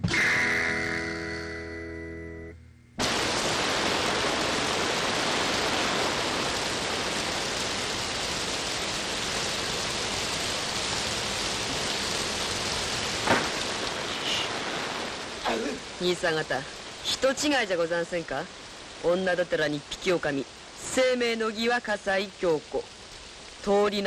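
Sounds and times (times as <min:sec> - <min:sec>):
heavy rain pouring: 0:03.0 - 0:24.0.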